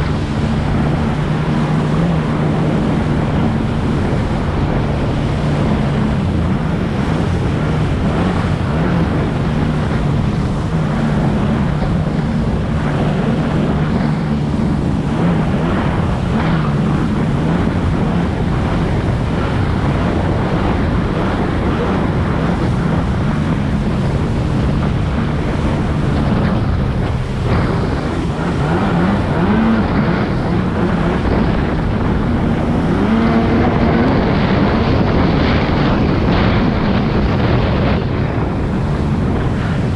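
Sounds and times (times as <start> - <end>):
jet ski engine running: 0.0 - 39.9
water rushing: 0.0 - 39.9
wind on microphone: 0.0 - 39.9.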